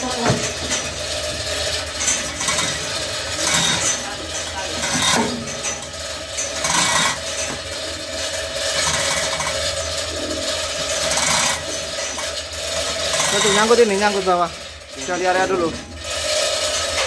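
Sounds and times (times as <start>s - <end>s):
chains rasping and scraping: 0.0s - 17.0s
machinery hum: 0.0s - 17.0s.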